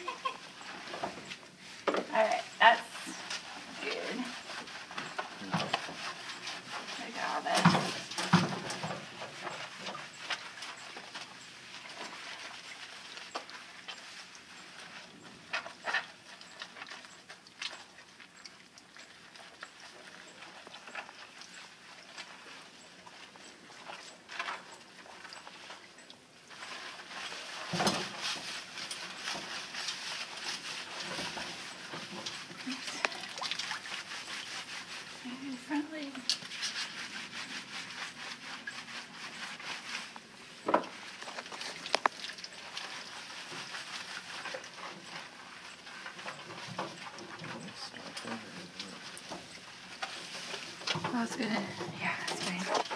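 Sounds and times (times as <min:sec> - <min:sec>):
hands scrubbing wet coat: 0:01.6 - 0:24.3, 0:26.5 - 0:47.1.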